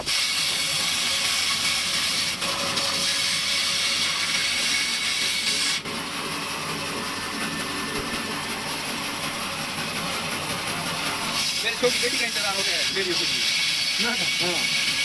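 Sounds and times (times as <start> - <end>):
band saw cutting cardboard: 0.0 - 15.0.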